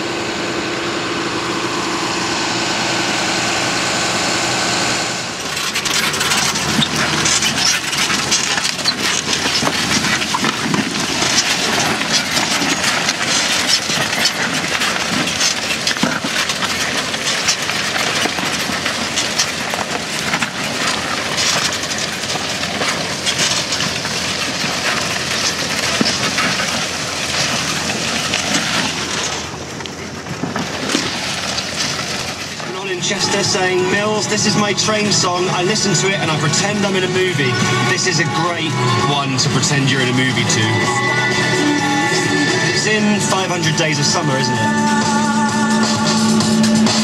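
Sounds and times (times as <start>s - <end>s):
tractor ploughing crackling noise: 0.0s - 47.0s.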